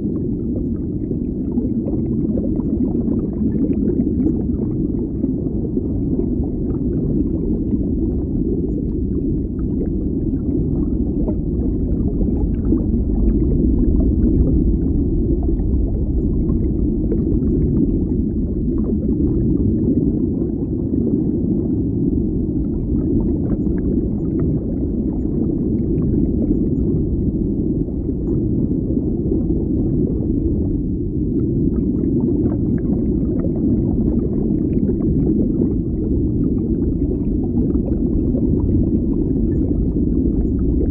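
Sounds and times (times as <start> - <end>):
deep muffled underwater rumble: 0.0 - 40.9.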